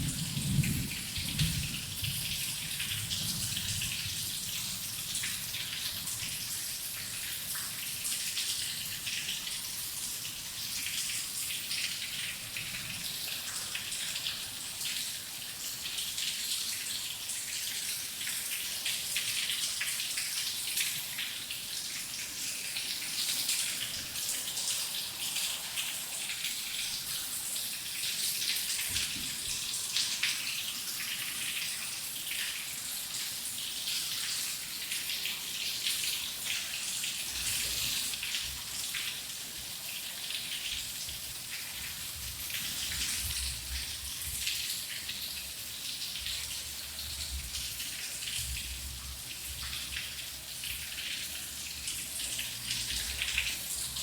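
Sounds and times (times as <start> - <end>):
steady rain with splashing drops: 0.0 - 54.0.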